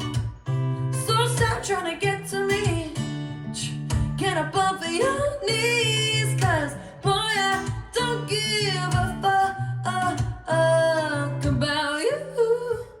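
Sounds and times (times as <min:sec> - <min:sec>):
guitar: 0:00.0 - 0:13.0
woman singing: 0:01.0 - 0:13.0.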